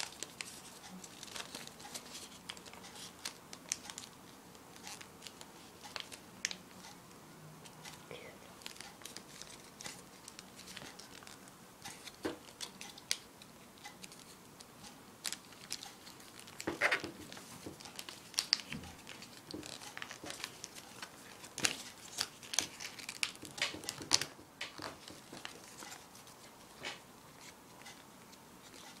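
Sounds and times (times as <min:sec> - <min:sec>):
paper rustling and crinkling: 0:00.0 - 0:06.7, 0:08.6 - 0:13.2, 0:15.2 - 0:29.0.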